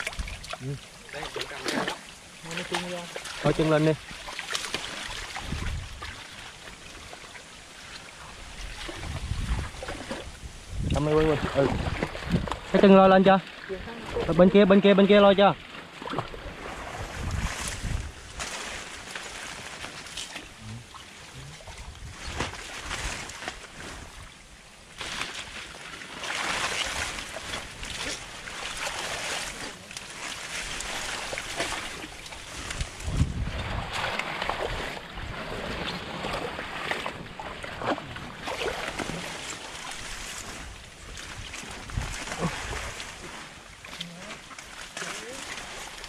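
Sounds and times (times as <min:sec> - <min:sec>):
water splashing and sloshing: 0:00.0 - 0:46.0.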